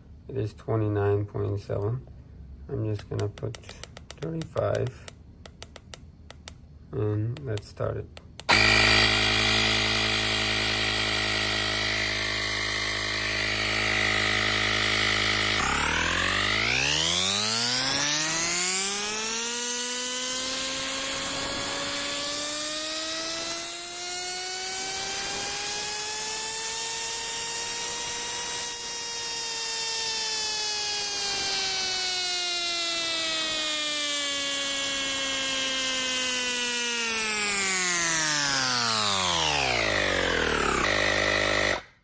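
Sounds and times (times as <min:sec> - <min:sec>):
tire inflator compressor humming: 0:08.3 - 0:42.0.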